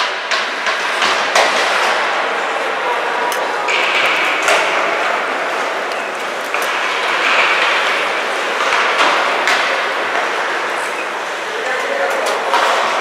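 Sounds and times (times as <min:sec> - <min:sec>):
crowd cheering in arena: 0:00.0 - 0:13.0.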